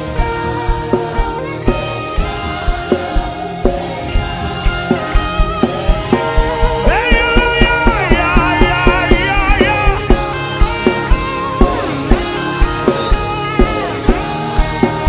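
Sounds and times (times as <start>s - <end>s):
keyboard and guitar chords: 0.0s - 15.0s
steady drum beat: 0.0s - 15.0s
person singing: 0.3s - 15.0s.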